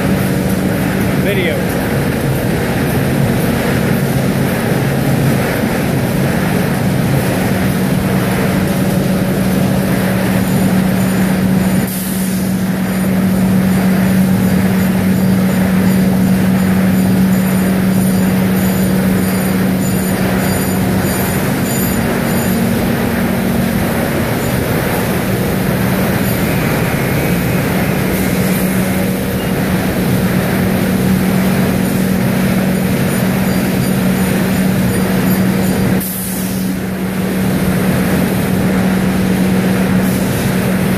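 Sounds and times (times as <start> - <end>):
constant low hum: 0.0 - 40.9
industrial machine din: 0.0 - 40.9.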